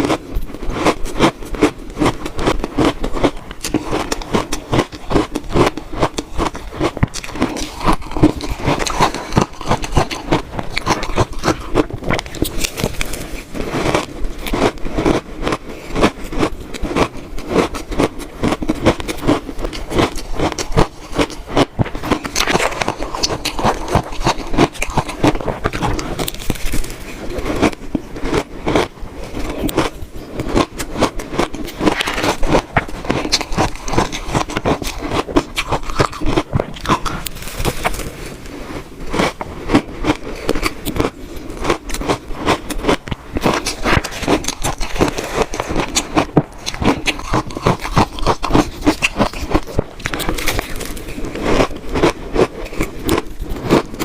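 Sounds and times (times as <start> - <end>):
shaved ice crunching being chewed: 0.0 - 54.0.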